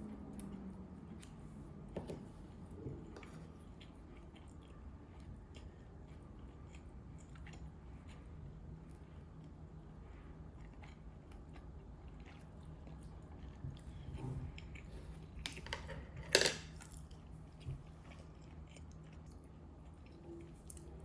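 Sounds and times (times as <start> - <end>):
person chewing food: 2.2 - 16.1, 16.7 - 21.0.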